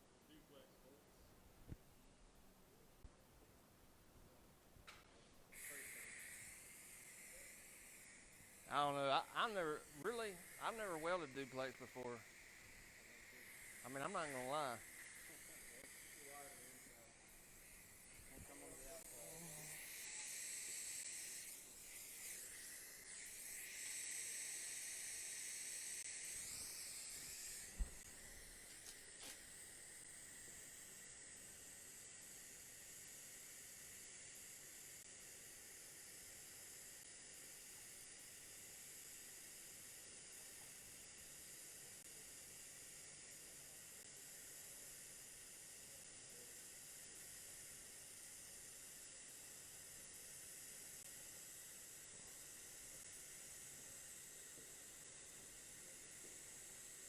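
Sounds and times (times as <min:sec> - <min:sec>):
welding arc hiss: 0:04.9 - 0:57.0.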